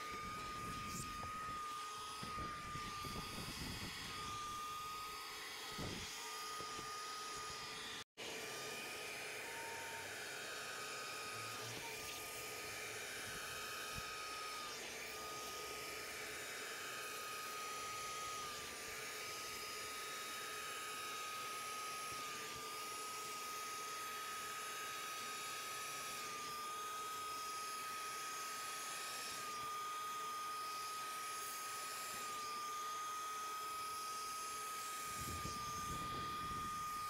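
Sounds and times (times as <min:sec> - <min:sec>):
vacuum motor whining: 0:00.0 - 0:37.0.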